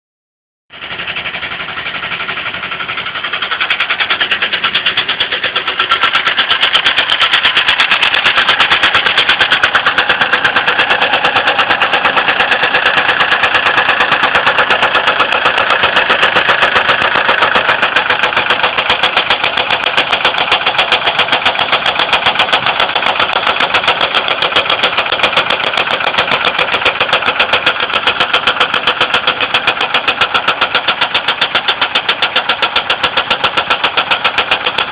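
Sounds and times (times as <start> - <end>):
car engine running: 0.7 - 34.9
rapid engine knocking: 0.7 - 34.9.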